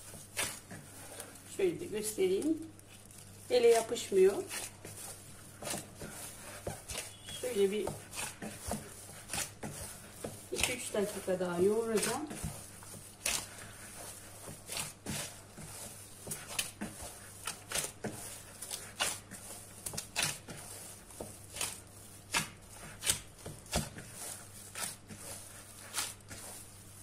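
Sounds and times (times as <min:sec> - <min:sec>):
dough squishing and slapping: 0:00.0 - 0:27.0.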